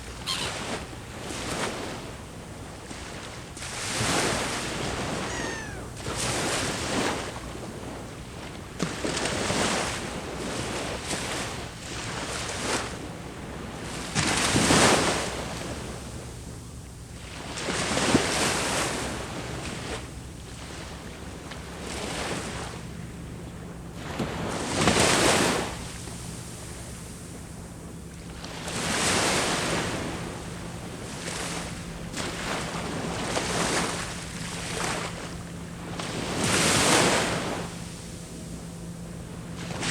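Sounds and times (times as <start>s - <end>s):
sea waves breaking on shore: 0.0s - 16.0s, 24.0s - 39.9s.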